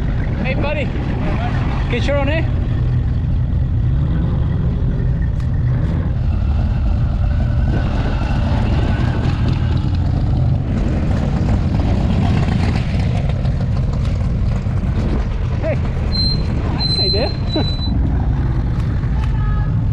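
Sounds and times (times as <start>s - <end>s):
car engines driving past: 0.0s - 19.9s.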